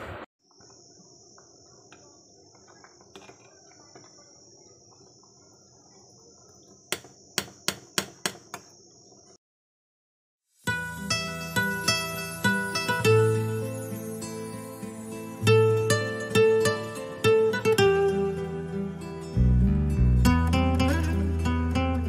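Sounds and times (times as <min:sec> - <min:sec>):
faint high whine: 0:00.0 - 0:09.4, 0:10.6 - 0:19.0.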